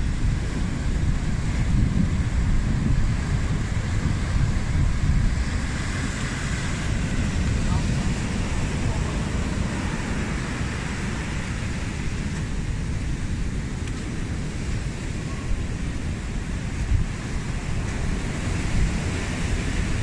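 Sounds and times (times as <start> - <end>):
ocean surf breaking on beach: 0.0 - 20.0
wind buffeting microphone: 0.0 - 20.0.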